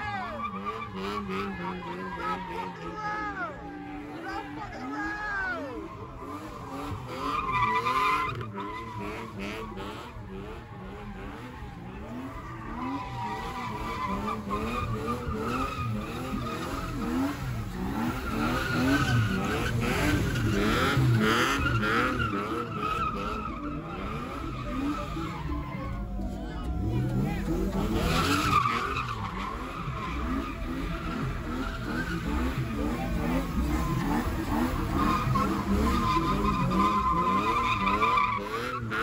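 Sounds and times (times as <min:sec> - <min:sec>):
car engine revving: 0:00.0 - 0:39.0
tyres squealing on pavement: 0:00.0 - 0:39.0.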